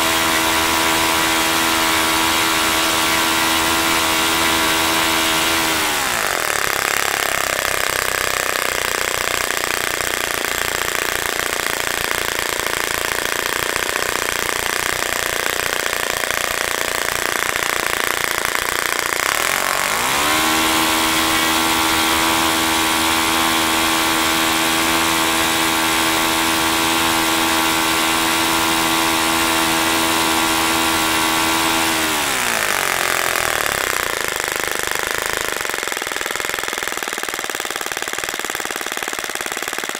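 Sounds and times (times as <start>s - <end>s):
model engine running with propeller: 0.0s - 39.9s.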